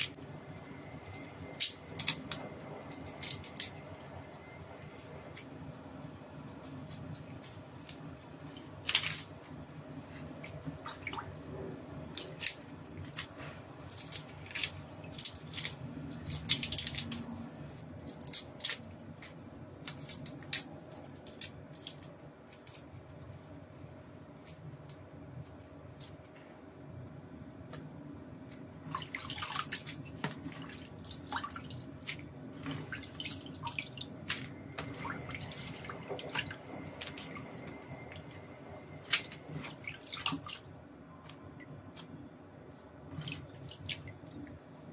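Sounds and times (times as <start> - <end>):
faint steady hum: 0.0 - 44.9
water drips and squishes: 6.1 - 26.2, 28.4 - 44.7.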